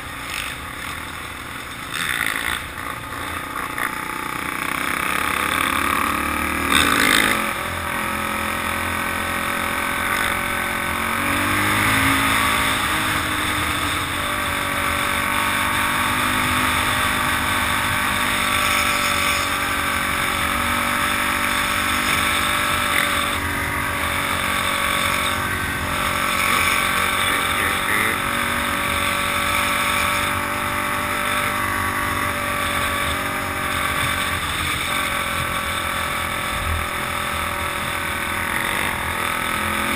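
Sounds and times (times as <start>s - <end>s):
dirt bike engines: 0.0s - 39.9s
quad engine running: 0.0s - 39.9s.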